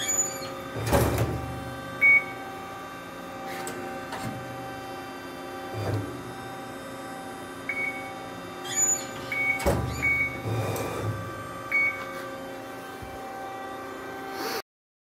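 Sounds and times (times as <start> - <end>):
machine hum: 0.0 - 14.4.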